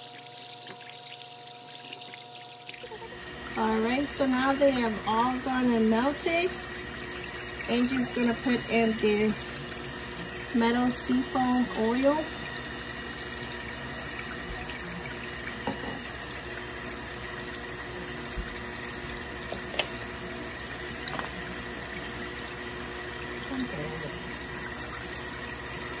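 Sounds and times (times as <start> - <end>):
immersion blender whining: 0.0 - 26.0.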